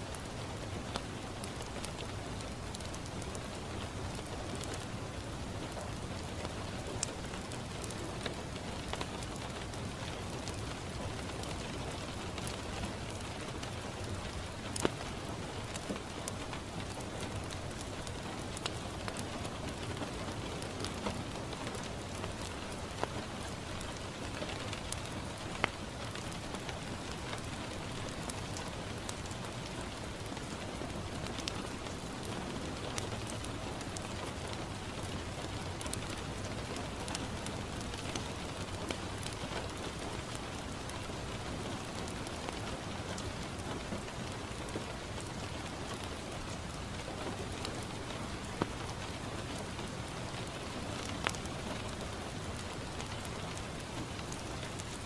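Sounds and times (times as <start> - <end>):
rain on a window: 0.0 - 55.0
wood fire pops and crackles: 0.1 - 55.0.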